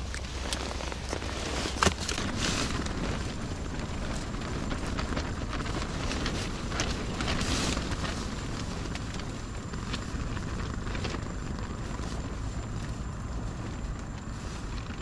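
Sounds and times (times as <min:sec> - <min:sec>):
storm wind buffeting a tent: 0:00.0 - 0:15.0.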